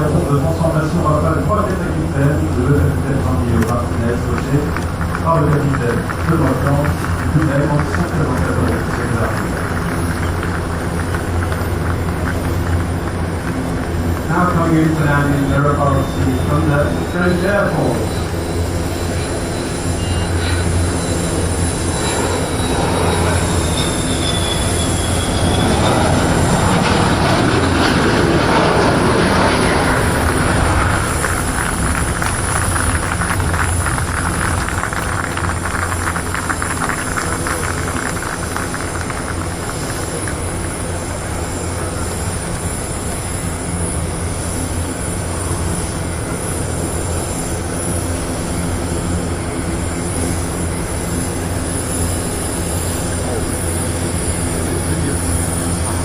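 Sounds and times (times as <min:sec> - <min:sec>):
jet engine rumble and whine: 0:00.0 - 0:56.0.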